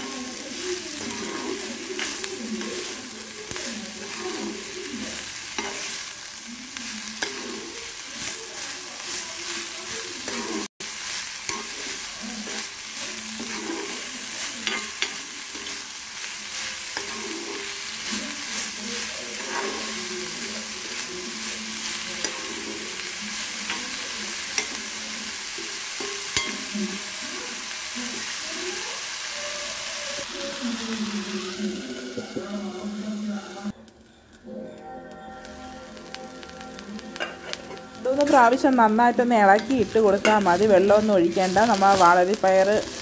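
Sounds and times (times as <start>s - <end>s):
vegetables sizzling in a pan: 0.0s - 43.0s.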